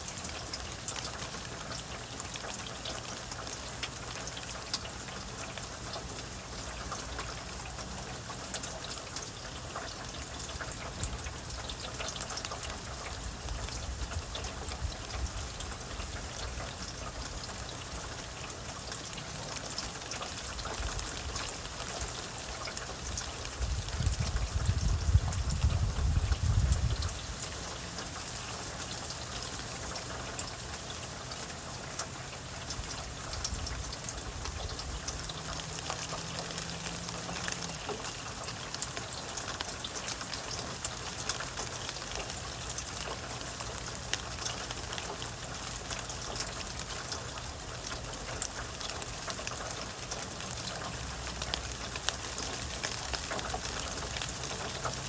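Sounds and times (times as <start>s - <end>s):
rainfall: 0.0s - 55.0s.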